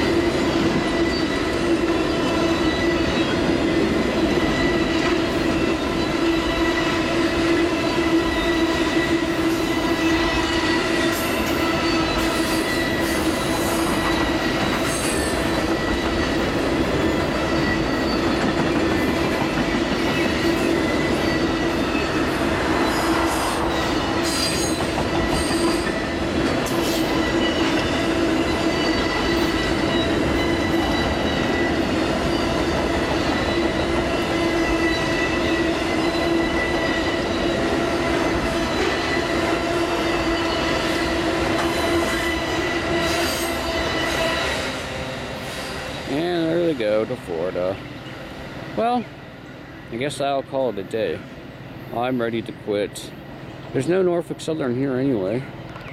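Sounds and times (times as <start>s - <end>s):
metallic wheel squeal: 0.0s - 44.8s
train wheels rumbling on rails: 0.0s - 55.9s.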